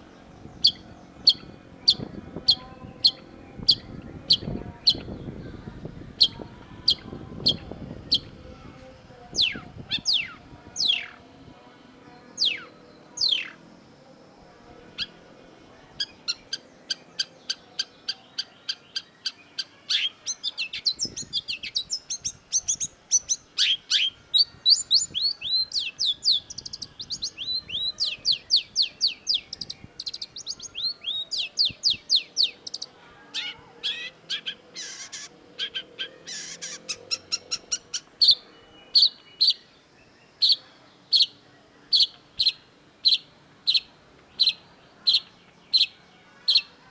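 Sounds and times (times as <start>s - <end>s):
bird singing sharp chirps: 0.0s - 8.3s, 12.3s - 13.6s, 16.0s - 46.8s.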